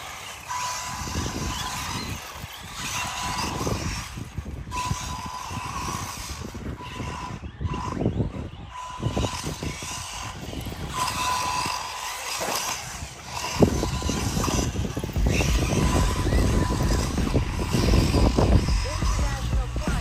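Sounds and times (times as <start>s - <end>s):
radio-controlled cars driving: 0.0s - 20.0s.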